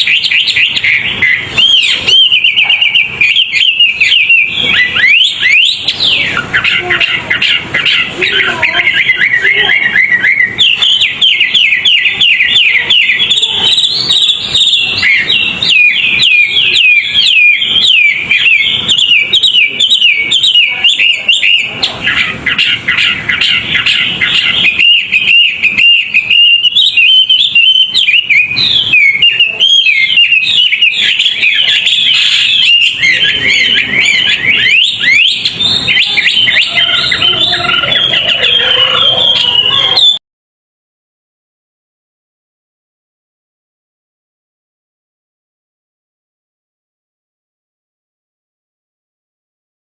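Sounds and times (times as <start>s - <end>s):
songbird chattering song: 0.0s - 40.2s.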